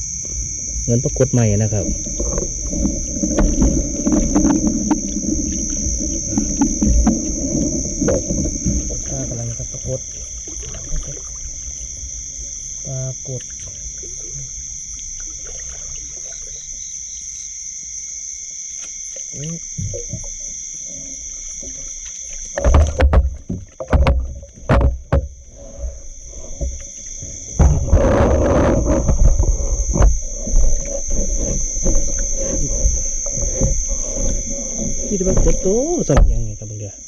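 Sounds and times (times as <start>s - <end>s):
water splashing and sloshing: 0.0s - 17.5s, 18.2s - 36.8s
high-pitched insect chorus: 0.0s - 37.0s.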